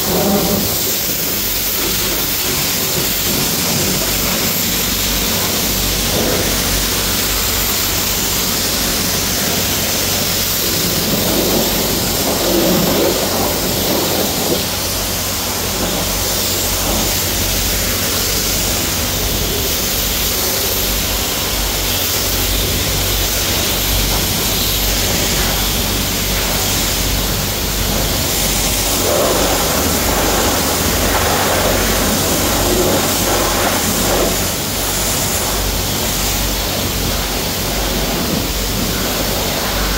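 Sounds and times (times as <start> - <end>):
high-pressure spray hissing: 0.0 - 39.9
pump humming: 0.0 - 39.9.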